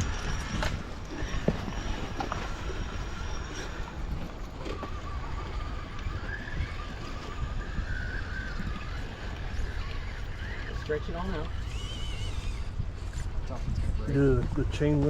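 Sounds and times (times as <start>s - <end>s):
electric motor whining: 0.0s - 15.0s
wind rumble on microphone: 0.0s - 15.0s.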